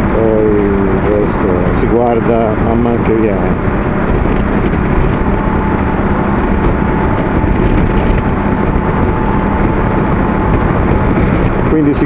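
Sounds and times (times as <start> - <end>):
motorcycle engine running: 0.0 - 12.0
wind over microphone: 0.0 - 12.0
wind rush and road noise: 0.0 - 12.0.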